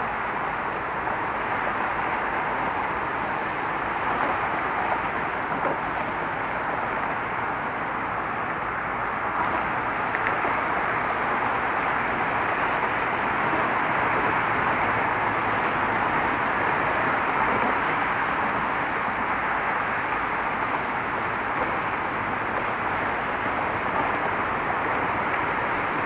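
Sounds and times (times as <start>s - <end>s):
steady road traffic: 0.0s - 26.0s.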